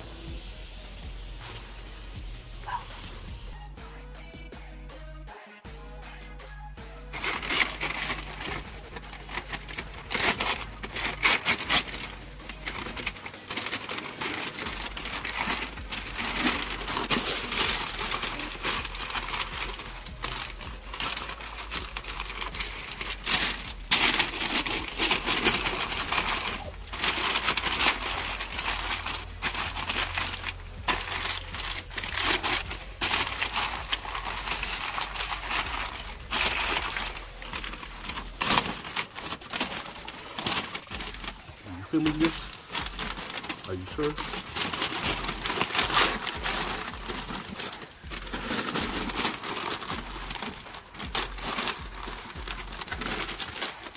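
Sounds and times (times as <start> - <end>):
paper crinkling and rustling: 7.1 - 53.9.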